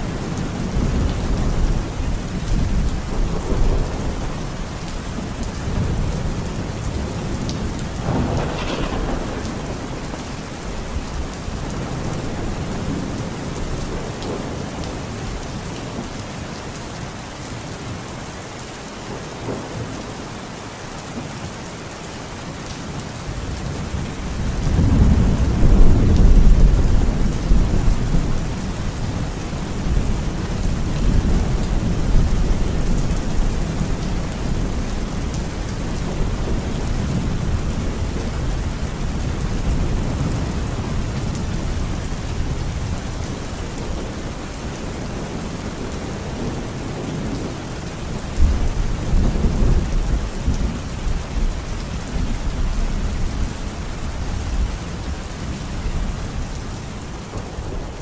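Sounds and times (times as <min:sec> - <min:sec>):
rolling thunder: 0:00.0 - 0:15.0, 0:23.4 - 0:55.5
heavy rain: 0:00.0 - 0:58.0.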